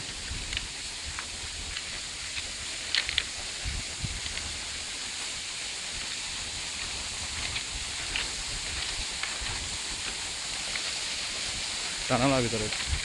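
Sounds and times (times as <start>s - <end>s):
footsteps crunching on ballast: 0.0s - 13.0s
high outdoor hiss: 0.0s - 13.0s
wind rumbling on microphone: 0.0s - 13.0s.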